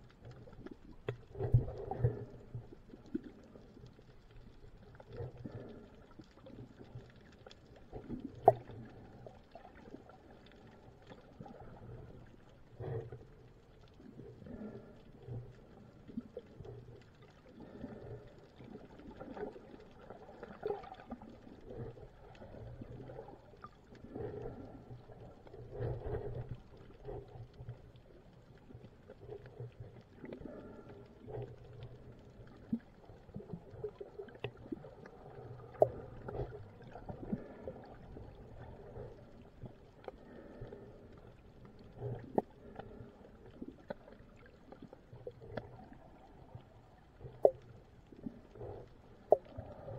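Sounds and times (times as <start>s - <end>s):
faint clicks and knocks: 0.0s - 49.9s
muffled underwater water noise: 0.0s - 49.9s.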